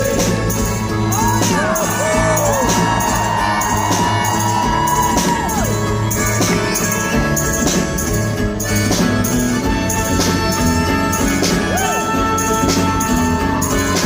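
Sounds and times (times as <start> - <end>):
drum beat: 0.0 - 14.0
guitar and keyboard chords: 0.0 - 14.0.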